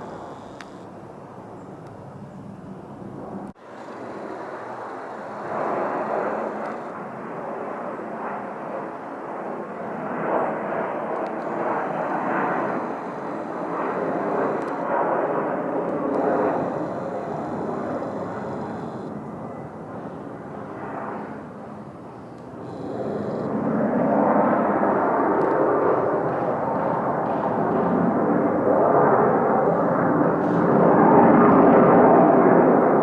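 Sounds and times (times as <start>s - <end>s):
fighter jet engine roar: 0.0s - 33.0s.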